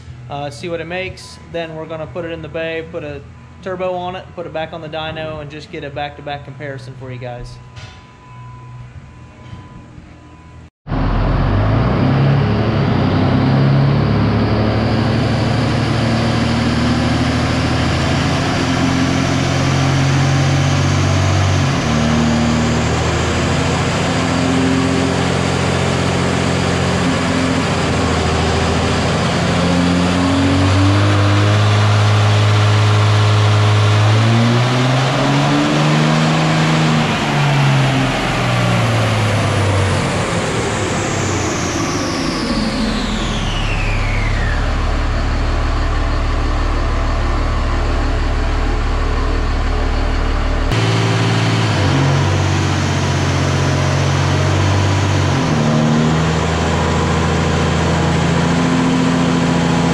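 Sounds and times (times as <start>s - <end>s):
high turbo whine: 0.0s - 59.9s
diesel truck engine pulling hard: 10.9s - 59.9s.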